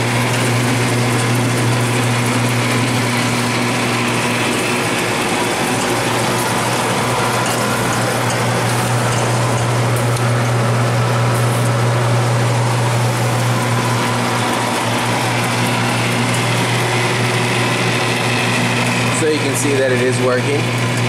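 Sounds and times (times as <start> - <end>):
blower air rush: 0.0 - 20.3
machine hum: 0.0 - 21.0.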